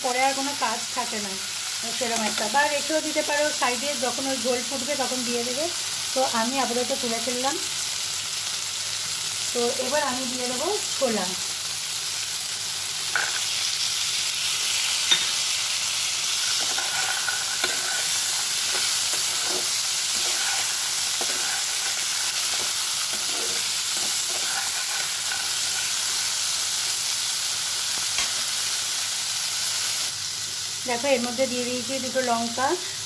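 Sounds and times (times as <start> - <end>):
vegetables sizzling in oil: 0.0 - 33.0.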